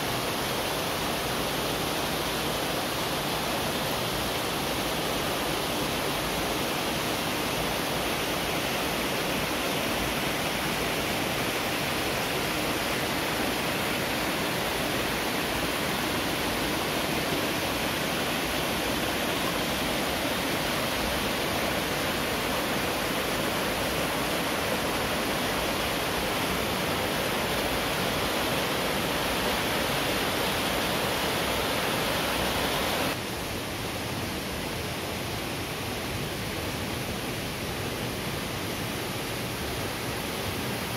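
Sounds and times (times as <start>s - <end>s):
waterfall rushing: 0.0s - 34.7s.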